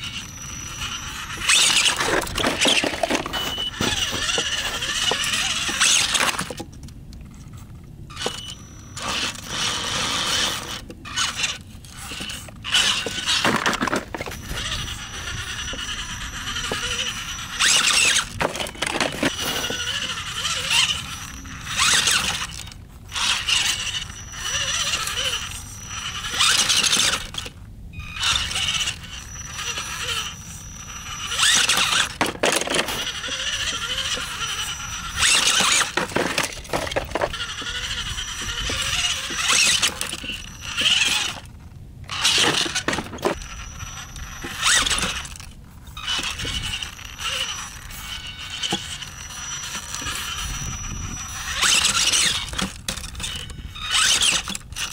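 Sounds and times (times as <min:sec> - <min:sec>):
electric motor whine: 0:00.0 - 0:54.9
tyres scraping on rock: 0:00.1 - 0:06.7, 0:07.4 - 0:27.6, 0:28.2 - 0:54.9.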